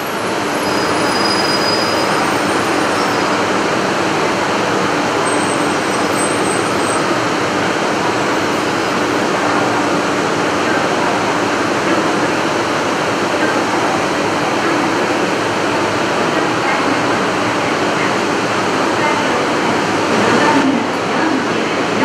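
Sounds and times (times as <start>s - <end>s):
train rumble and hiss: 0.0s - 22.0s.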